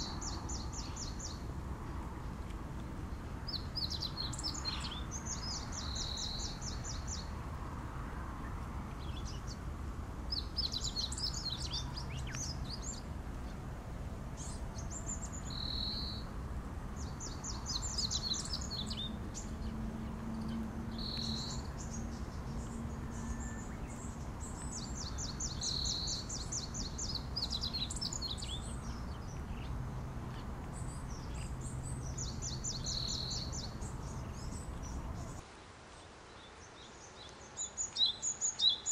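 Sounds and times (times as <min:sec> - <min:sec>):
steady low rumble: 0:00.0 - 0:35.4
songbird singing: 0:00.0 - 0:38.9.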